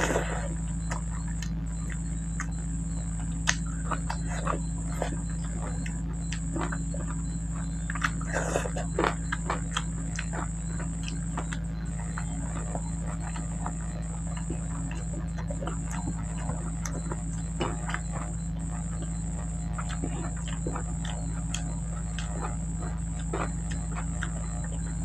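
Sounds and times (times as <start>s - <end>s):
high-pitched whine: 0.0s - 25.0s
low hum: 0.0s - 25.0s
wet chewing and mouth smacks: 0.0s - 25.0s.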